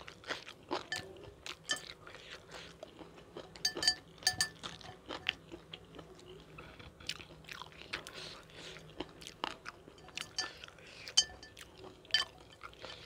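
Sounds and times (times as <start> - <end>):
chewing with crisp crunches: 0.0 - 13.0.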